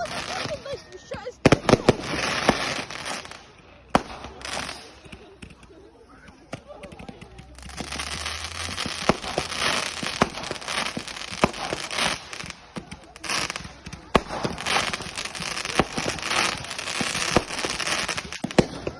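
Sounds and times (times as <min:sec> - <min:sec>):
fireworks bangs: 0:00.0 - 0:18.9
fireworks crackling and fizzing: 0:00.0 - 0:18.9.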